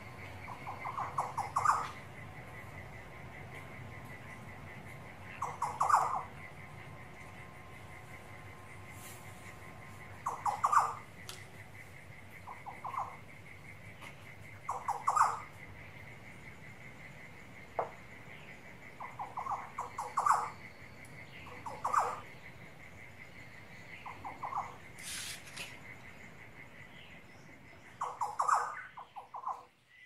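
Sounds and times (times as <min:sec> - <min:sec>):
birds chattering: 0:00.0 - 0:29.9
crickets trilling: 0:00.0 - 0:30.0.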